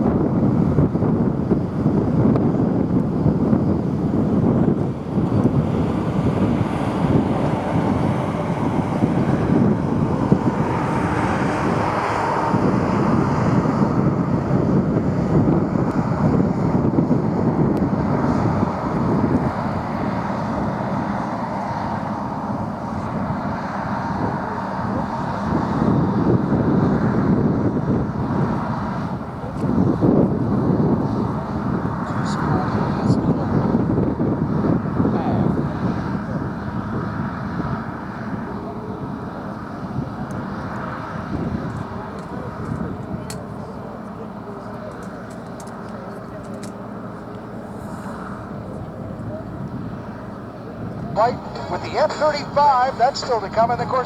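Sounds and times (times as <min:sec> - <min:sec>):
aircraft engine droning: 0:00.0 - 0:54.0
wind rumble on microphone: 0:00.0 - 0:54.0.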